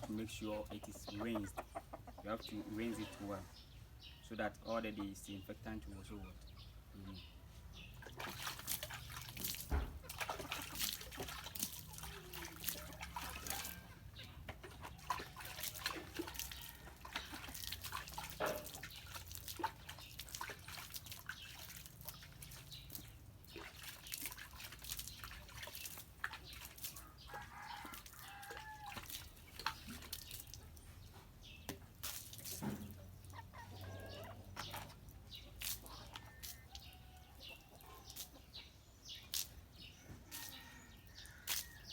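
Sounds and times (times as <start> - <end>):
chickens clucking: 0.0 - 7.3, 9.7 - 39.4
water splashing and dripping: 7.8 - 41.9.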